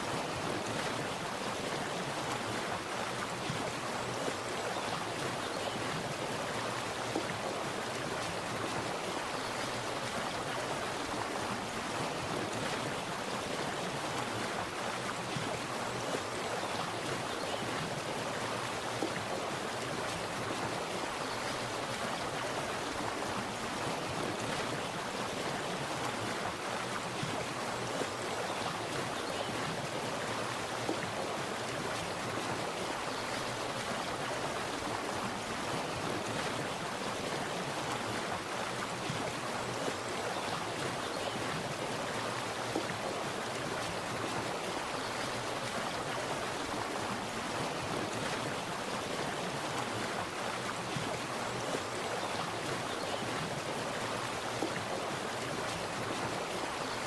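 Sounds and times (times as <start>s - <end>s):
water splashing in a stream: 0.0s - 57.0s.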